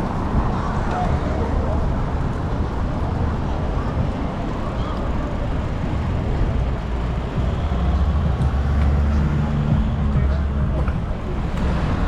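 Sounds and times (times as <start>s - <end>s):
traffic road and wind noise: 0.0s - 12.0s
vehicle engine humming: 0.0s - 12.0s.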